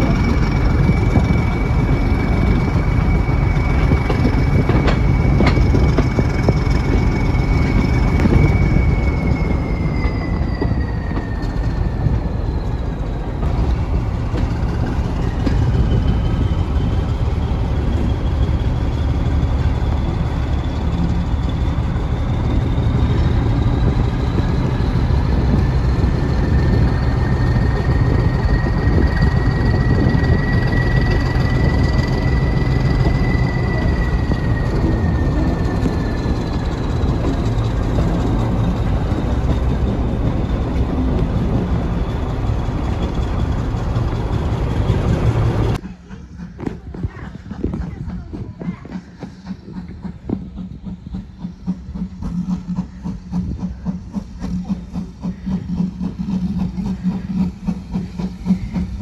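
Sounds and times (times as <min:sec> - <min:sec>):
train wheels rumbling: 0:00.0 - 0:59.0
wheel flanges squealing: 0:00.0 - 0:59.0.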